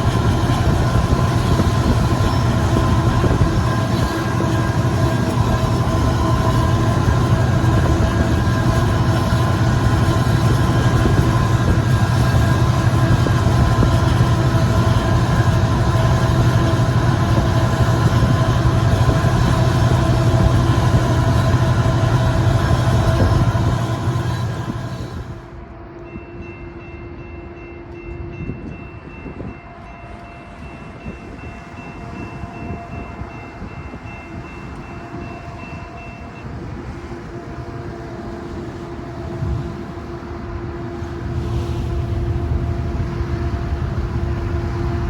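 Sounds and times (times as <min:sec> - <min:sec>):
freight train rumbling on rails: 0:00.0 - 0:45.0.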